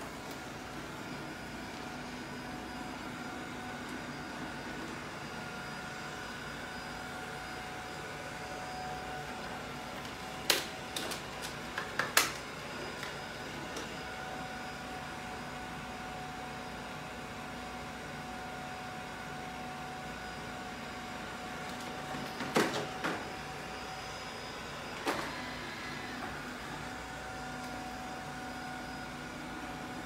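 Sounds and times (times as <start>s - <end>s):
vacuum cleaner motor running: 0.0s - 30.0s.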